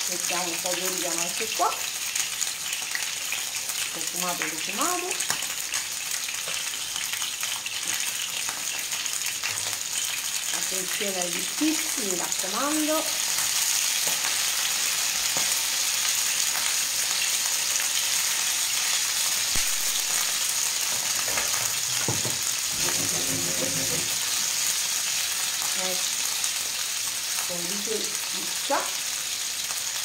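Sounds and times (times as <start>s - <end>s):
fish sizzling in a frying pan: 0.0s - 30.0s.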